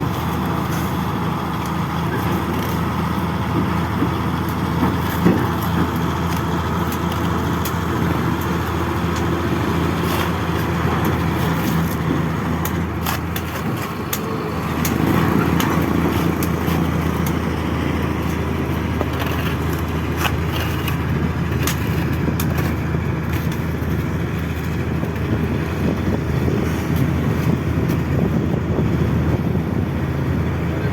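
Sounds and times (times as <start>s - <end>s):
heavy machinery diesel engine: 0.0s - 30.9s.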